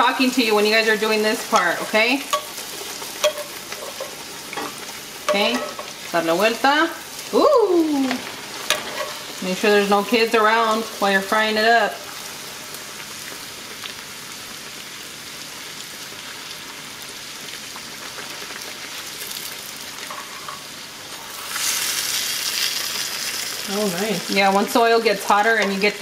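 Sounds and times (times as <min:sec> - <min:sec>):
tortilla sizzling in hot oil: 0:00.0 - 0:26.0.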